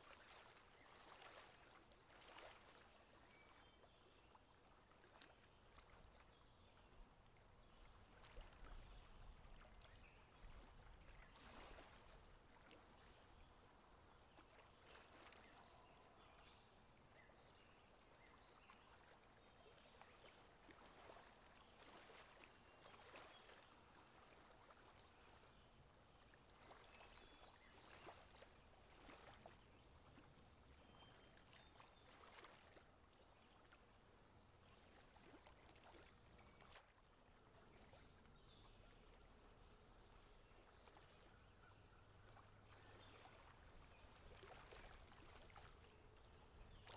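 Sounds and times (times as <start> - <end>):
faint running river water: 0.0 - 46.9
soft splashes: 0.0 - 46.9.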